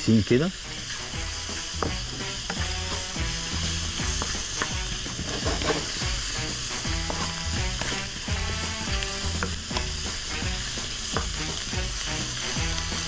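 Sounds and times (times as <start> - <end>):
okra sizzling in a pan: 0.0 - 13.0
wooden spatula scraping pan: 0.8 - 13.0.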